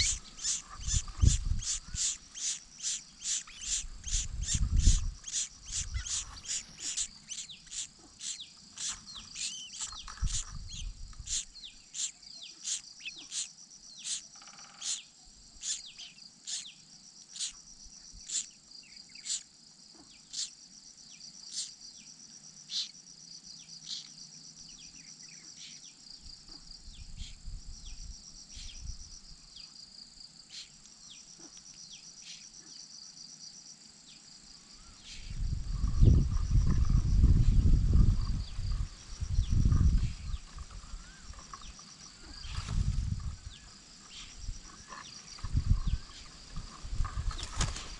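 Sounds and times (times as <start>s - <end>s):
high-pitched insect trill: 0.0s - 47.9s.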